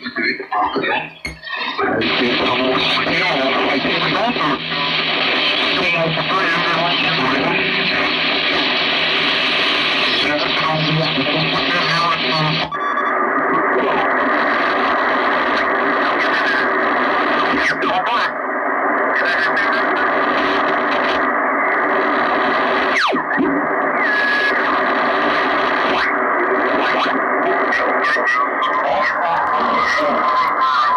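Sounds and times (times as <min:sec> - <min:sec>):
radio band noise: 0:00.0 - 0:30.9.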